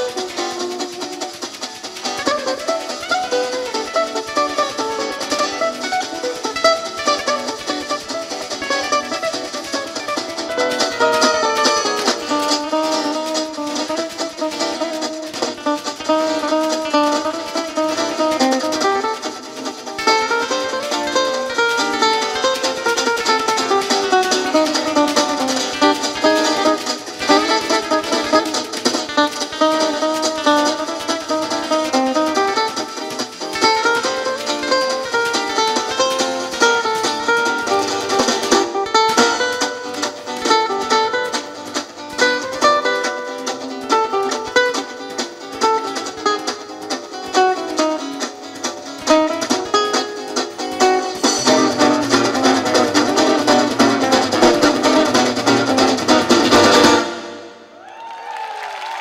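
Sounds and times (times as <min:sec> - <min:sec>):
light percussion: 0:00.0 - 0:57.6
acoustic guitars playing: 0:00.0 - 0:57.8.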